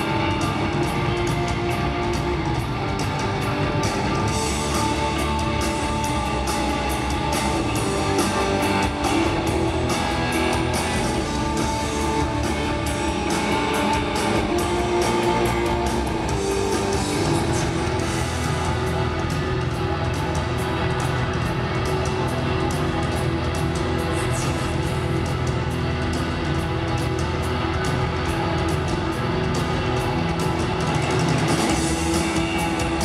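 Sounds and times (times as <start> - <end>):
live hard rock band: 0.0 - 33.0.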